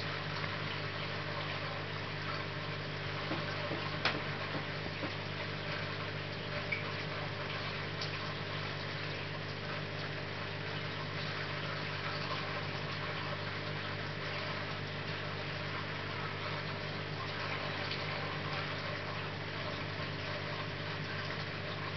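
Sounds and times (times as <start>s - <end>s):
filter pump humming: 0.0s - 21.9s.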